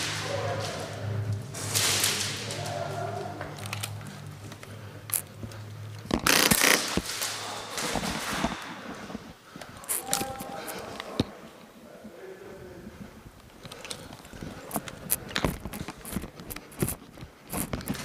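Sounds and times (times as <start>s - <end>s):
rustling movement: 0.0s - 11.8s, 12.4s - 18.0s
steady low hum: 0.0s - 18.0s.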